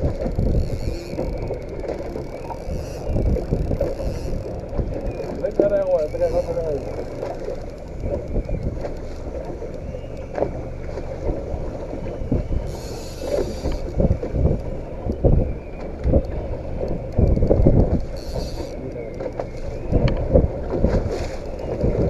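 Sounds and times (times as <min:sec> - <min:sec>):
water against a boat: 0:00.0 - 0:22.0
wind buffeting microphone: 0:00.0 - 0:22.0.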